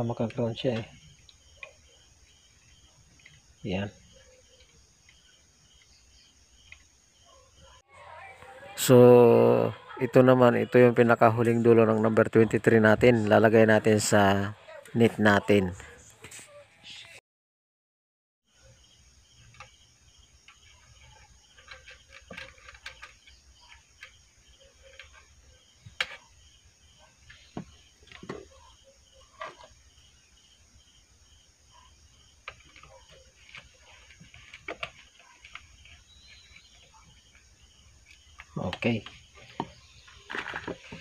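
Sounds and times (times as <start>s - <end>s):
faint high chirping: 0.0s - 12.0s, 18.5s - 41.0s.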